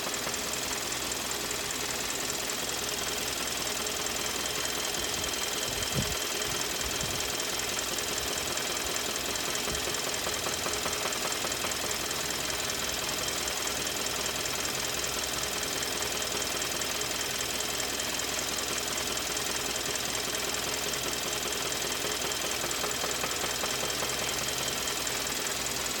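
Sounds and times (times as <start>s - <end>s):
car engine running: 0.0s - 26.0s
rapid engine knocking: 0.0s - 26.0s.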